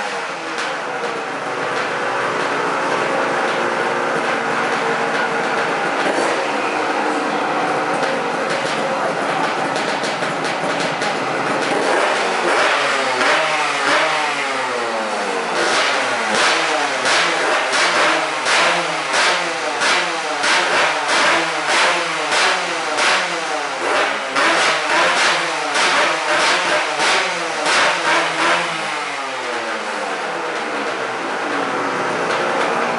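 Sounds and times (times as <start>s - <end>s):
motorcycle engine surging: 0.0s - 32.9s.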